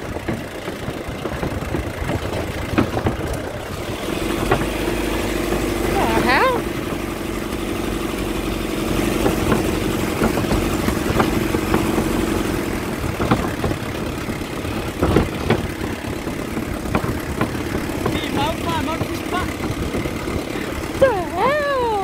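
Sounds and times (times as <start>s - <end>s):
truck clunking and rattling over bumps: 0.0s - 22.0s
truck engine running: 0.0s - 22.0s.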